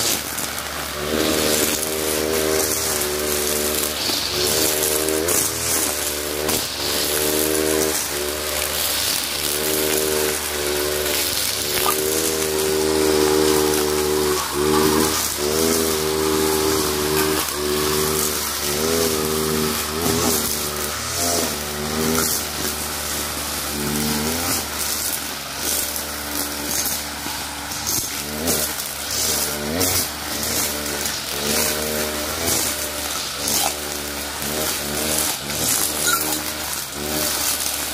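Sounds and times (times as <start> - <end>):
brush cutter engine cutting grass: 0.0 - 37.9.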